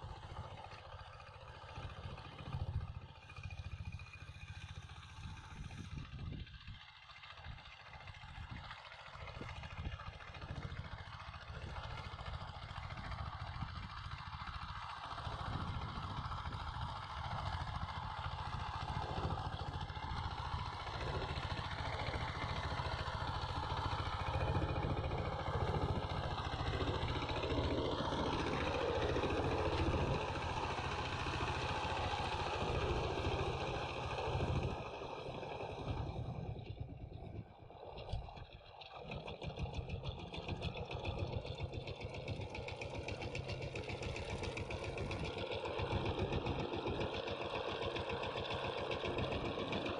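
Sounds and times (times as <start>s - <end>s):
diesel engine chugging under load: 0.0s - 49.9s.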